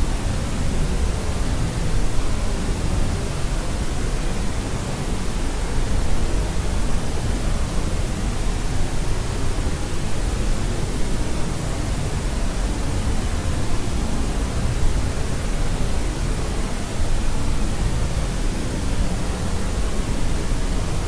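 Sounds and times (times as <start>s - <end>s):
white noise hiss: 0.0s - 21.0s.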